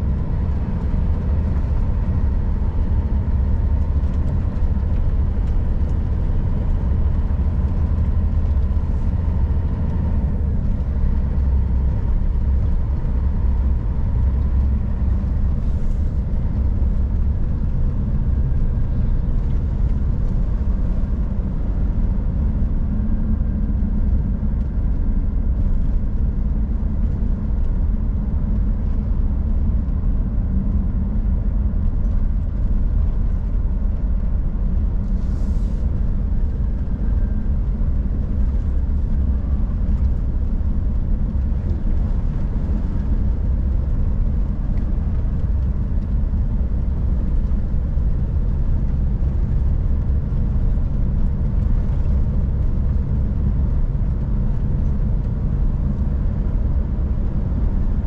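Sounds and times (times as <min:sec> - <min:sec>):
diesel truck engine cruising: 0:00.0 - 0:58.0
tyre and road rumble on snow: 0:00.0 - 0:58.0.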